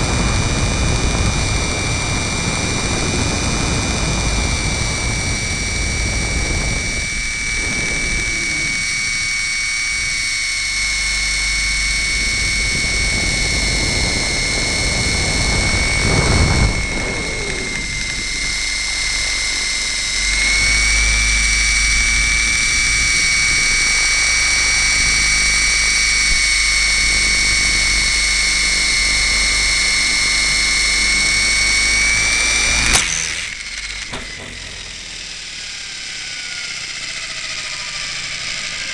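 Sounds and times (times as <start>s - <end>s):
model helicopter motor whine: 0.0s - 38.9s.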